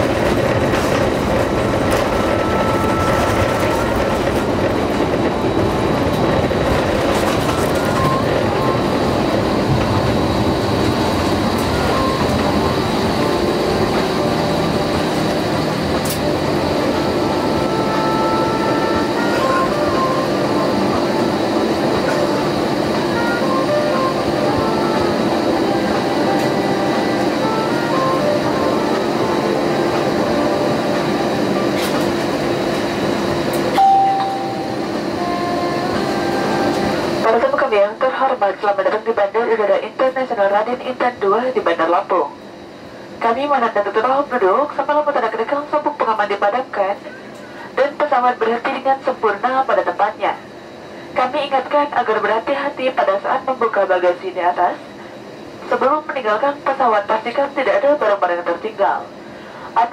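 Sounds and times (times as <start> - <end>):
aircraft engines rumbling: 0.0 - 33.8, 34.4 - 38.0, 42.4 - 44.6, 45.6 - 48.1, 49.2 - 52.2, 53.0 - 59.9.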